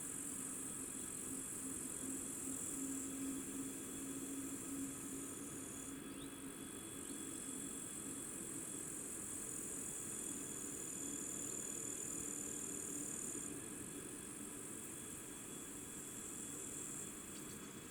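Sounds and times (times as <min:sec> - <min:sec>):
crickets buzzing: 0:00.0 - 0:17.9.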